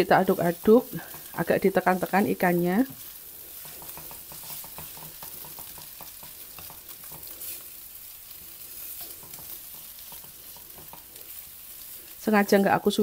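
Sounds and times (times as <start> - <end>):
noodles sizzling in a wok: 0.0 - 13.0
spatula scraping a pan: 0.1 - 12.2.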